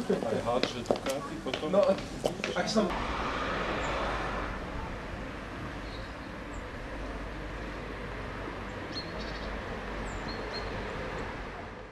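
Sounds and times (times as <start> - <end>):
steady outdoor background noise: 0.0 - 11.9.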